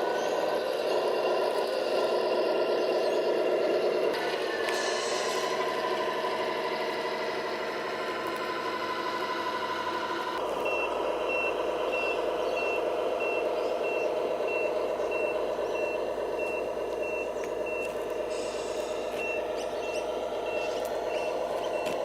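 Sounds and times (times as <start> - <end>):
engine-like running noise: 0.0 - 22.0
reversing beeper: 0.0 - 22.0.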